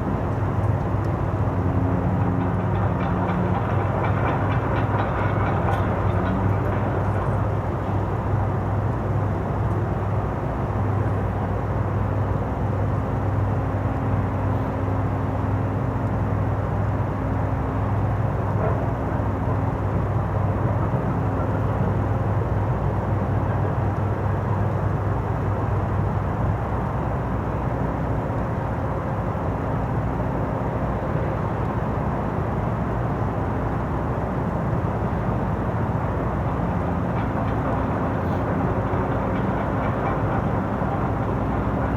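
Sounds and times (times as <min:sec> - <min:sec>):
low mechanical drone: 0:00.0 - 0:28.5, 0:29.3 - 0:41.9.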